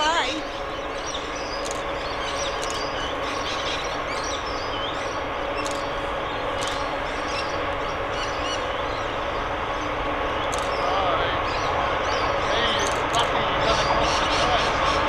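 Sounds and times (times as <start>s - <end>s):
distant diesel locomotives droning: 0.0s - 15.0s
small birds chirping: 0.0s - 15.0s.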